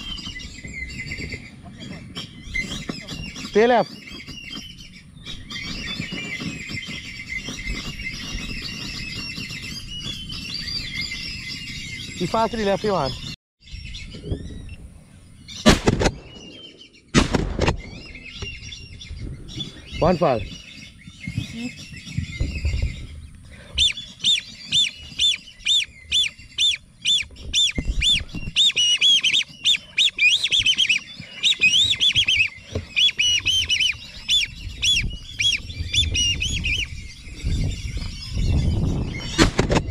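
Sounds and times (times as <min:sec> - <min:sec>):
ducks whistling calls: 0:00.0 - 0:13.4, 0:15.4 - 0:39.9.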